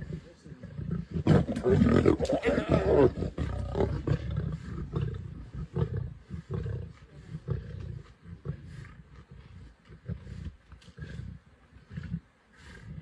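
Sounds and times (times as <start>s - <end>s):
lions growling: 0.0s - 13.0s.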